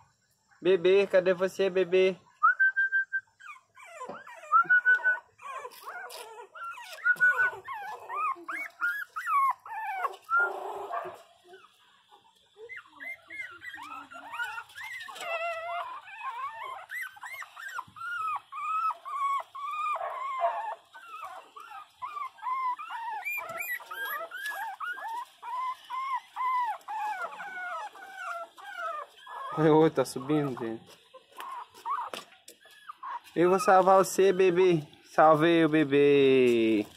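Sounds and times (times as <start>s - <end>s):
puppy whining and crying: 2.5s - 34.9s.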